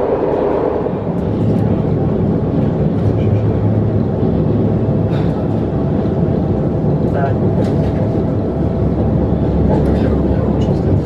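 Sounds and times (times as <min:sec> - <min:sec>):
constant low hum: 0:00.0 - 0:11.0
train rumbling: 0:00.0 - 0:11.0.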